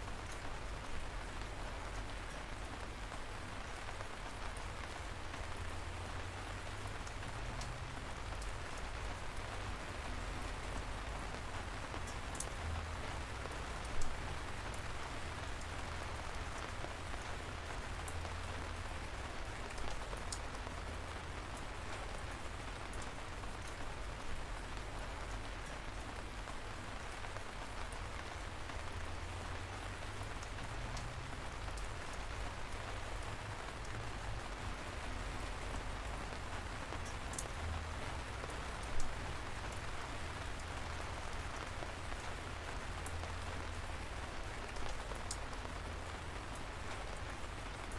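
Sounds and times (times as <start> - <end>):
light rain falling: 0.0 - 47.9.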